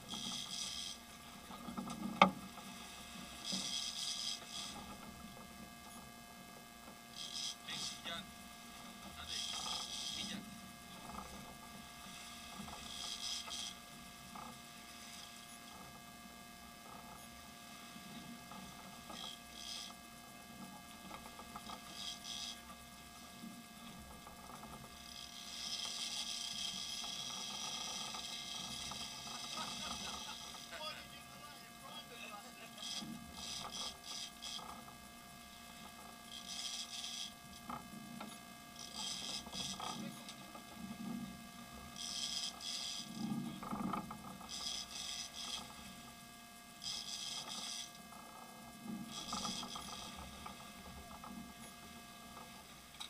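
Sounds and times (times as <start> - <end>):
boat engine hum: 0.0 - 53.0.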